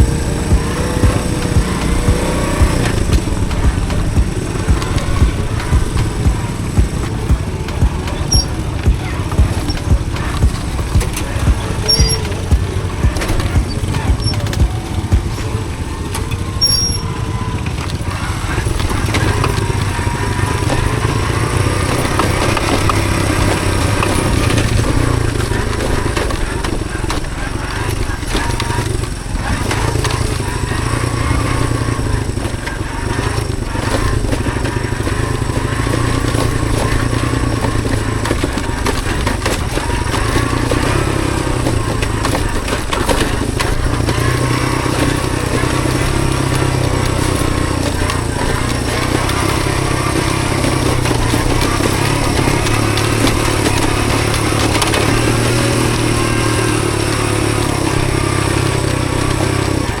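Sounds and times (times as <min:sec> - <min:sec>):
motorcycle engine running: 0:00.0 - 1:00.0.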